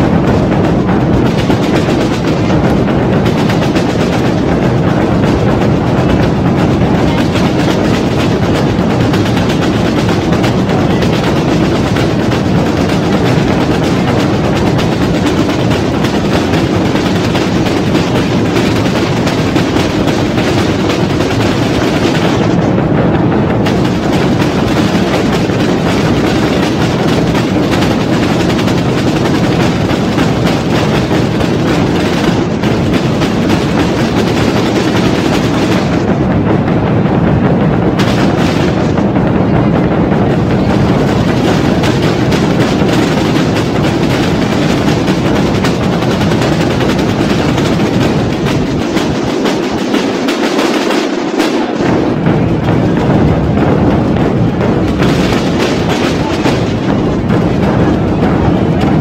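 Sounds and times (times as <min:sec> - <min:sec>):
bass drums beating: 0:00.0 - 0:50.0, 0:51.8 - 0:59.0
snare drum rattle: 0:00.0 - 0:59.0.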